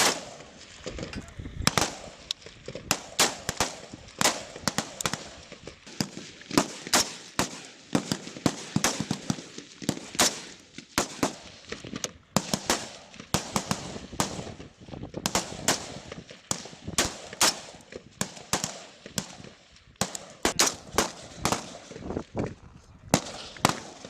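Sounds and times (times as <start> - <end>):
rifle shots with echo: 0.0 - 22.2, 23.1 - 24.0.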